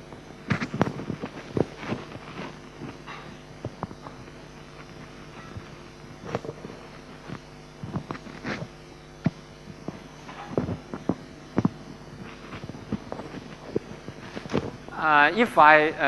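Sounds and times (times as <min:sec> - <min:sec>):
electrical hum of sound system: 0:00.0 - 0:16.0.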